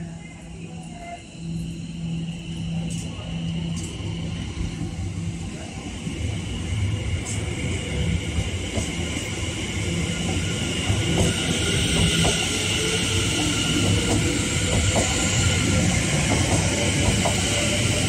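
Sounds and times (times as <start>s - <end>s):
electric train rolling past: 0.0s - 18.0s.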